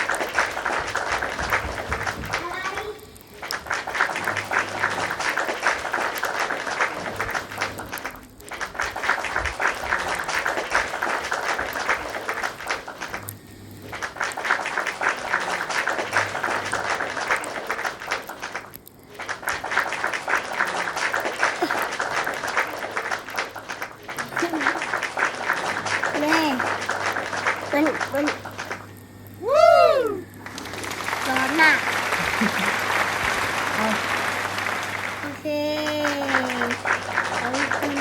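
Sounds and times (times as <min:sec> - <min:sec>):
popping candy crackling: 0:00.0 - 0:38.0.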